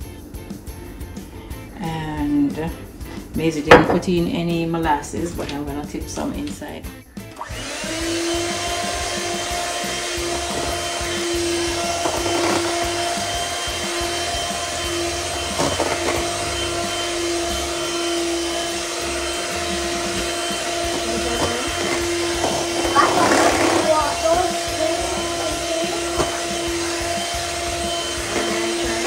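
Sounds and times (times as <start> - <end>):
electric hand mixer whining: 4.7 - 29.0.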